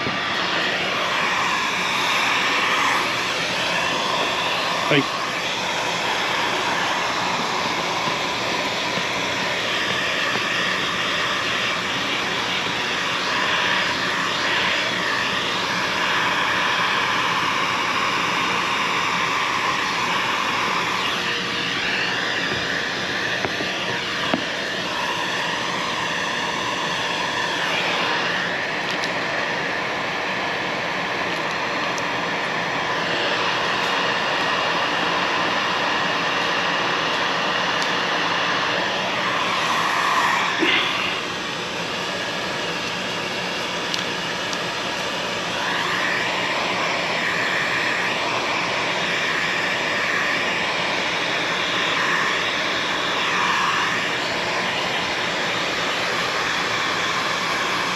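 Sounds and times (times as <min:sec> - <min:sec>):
power tool fan rushing and whining: 0:00.0 - 0:57.9.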